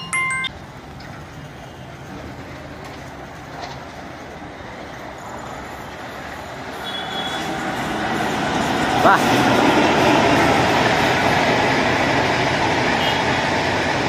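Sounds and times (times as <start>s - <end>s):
train running on rails: 0.0s - 14.0s.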